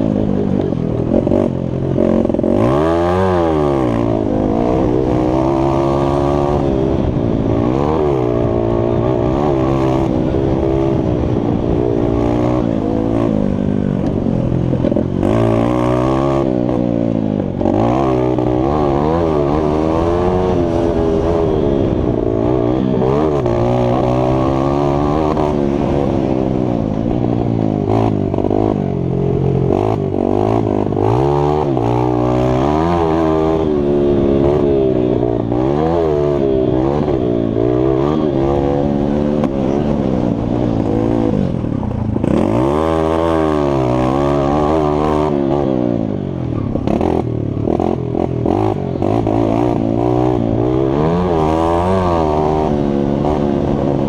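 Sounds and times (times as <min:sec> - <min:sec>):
mini bike engine revving: 0:00.0 - 0:54.0.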